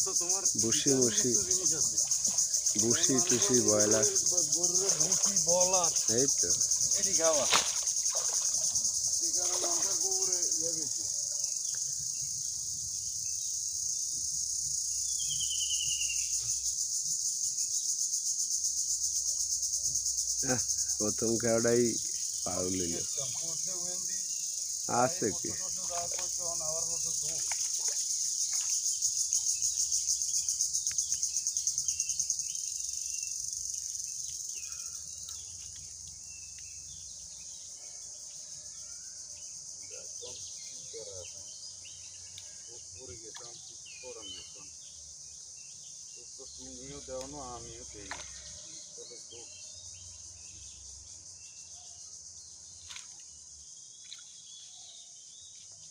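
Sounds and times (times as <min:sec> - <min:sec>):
insects shrilling: 0:00.0 - 0:53.7
crickets trilling: 0:00.0 - 0:55.9.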